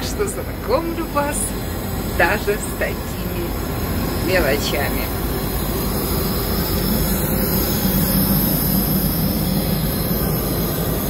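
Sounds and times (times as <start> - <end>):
airliner cabin roar: 0.0 - 11.0
low hum: 0.0 - 11.0.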